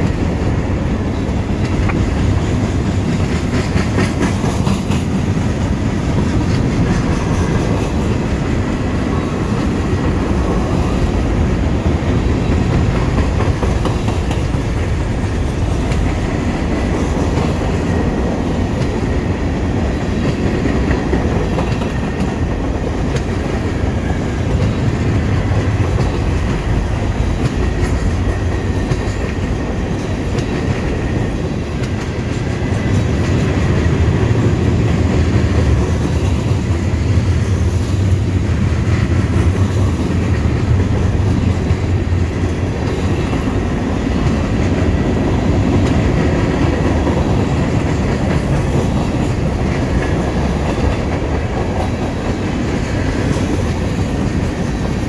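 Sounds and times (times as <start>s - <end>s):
freight train cars rolling: 0.0s - 55.0s.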